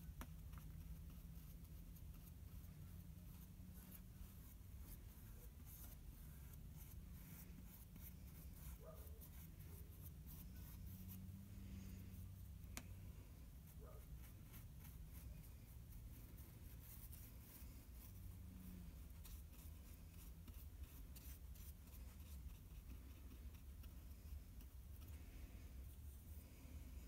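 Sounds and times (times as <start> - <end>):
low steady hum: 0.0 - 27.0
paintbrush scratchy strokes: 0.0 - 27.0.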